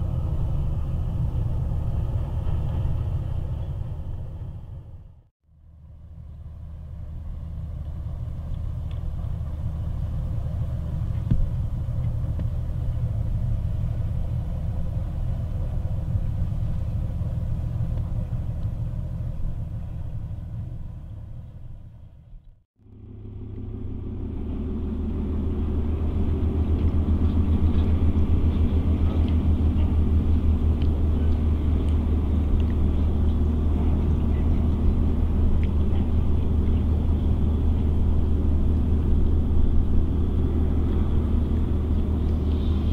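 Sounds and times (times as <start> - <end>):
ship diesel engine rumble: 0.0 - 42.9.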